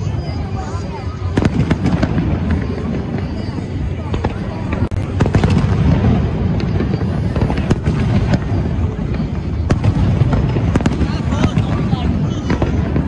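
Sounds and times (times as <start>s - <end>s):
fireworks booming: 0.0s - 13.0s
fireworks sharp cracks: 0.0s - 13.0s.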